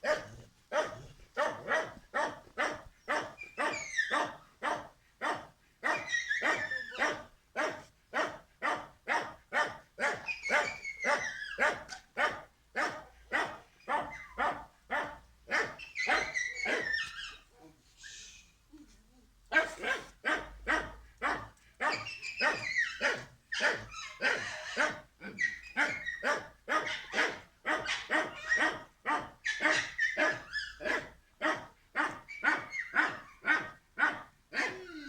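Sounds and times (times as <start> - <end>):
dog barking: 0.0 - 17.4, 19.5 - 35.0.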